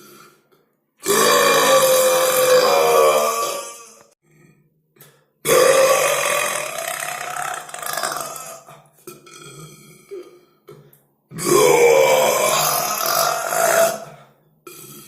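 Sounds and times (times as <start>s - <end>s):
person burping loudly: 0.0s - 4.2s, 5.4s - 15.0s.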